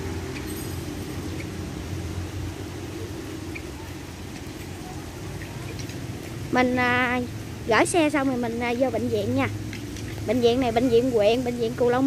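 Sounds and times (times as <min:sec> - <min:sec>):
street ambience rumble: 0:00.0 - 0:12.0.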